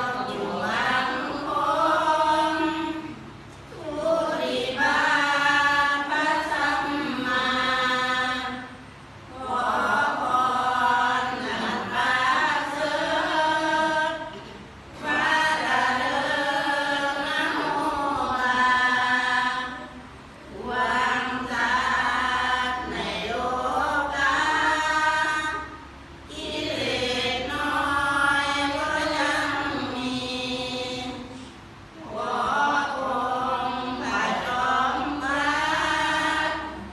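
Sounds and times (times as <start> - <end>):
group chanting in unison: 0.0 - 36.9.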